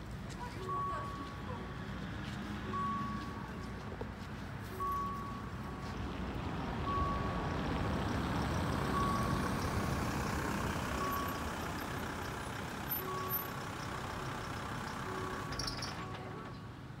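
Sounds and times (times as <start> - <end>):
van engine and tyres rumbling: 0.0 - 17.0.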